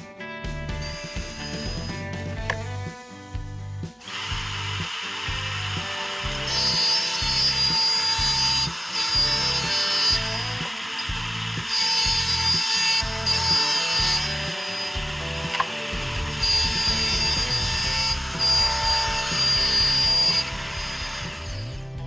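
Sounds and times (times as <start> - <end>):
background music: 0.0 - 22.0
router cutting wood: 0.6 - 3.0, 3.8 - 22.0.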